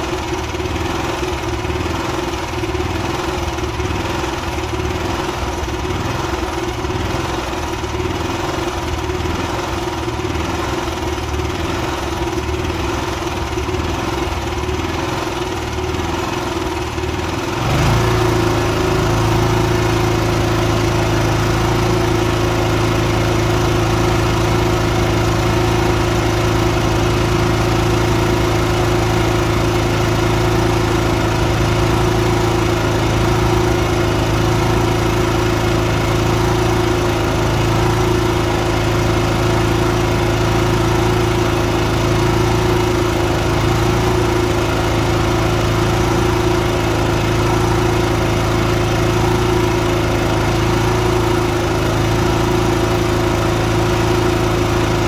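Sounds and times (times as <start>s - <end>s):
generator running steadily: 0.0s - 55.0s.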